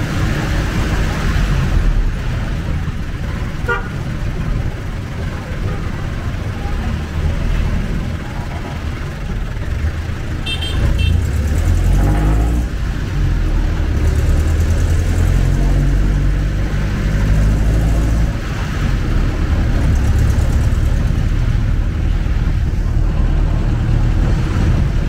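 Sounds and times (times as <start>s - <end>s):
diesel engine running: 0.0s - 25.0s
street traffic: 0.0s - 25.0s.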